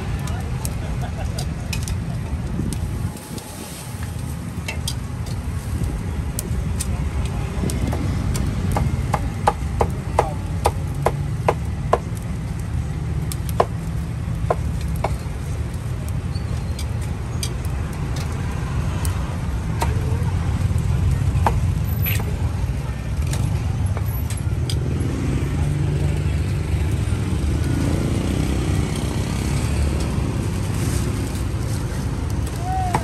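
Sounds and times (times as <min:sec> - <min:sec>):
low rumble of street traffic: 0:00.0 - 0:33.0.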